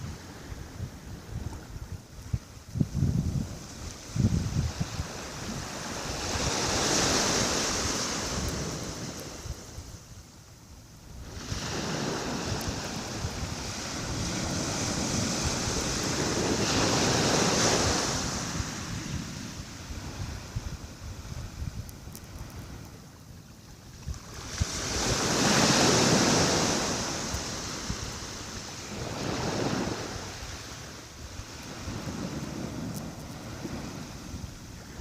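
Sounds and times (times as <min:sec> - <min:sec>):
sea waves washing onto shore: 0:00.0 - 0:35.0.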